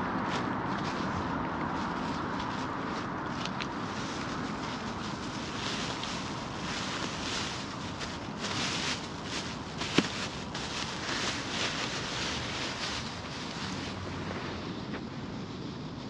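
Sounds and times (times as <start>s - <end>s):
footsteps scuffing outdoors: 0.0s - 15.1s
wind noise on microphone: 0.0s - 16.0s.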